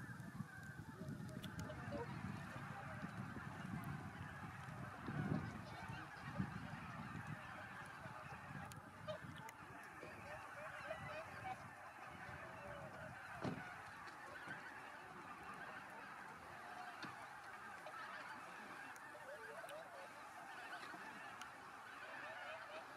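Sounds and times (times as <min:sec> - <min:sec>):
geese and swans honking: 0:00.0 - 0:22.9.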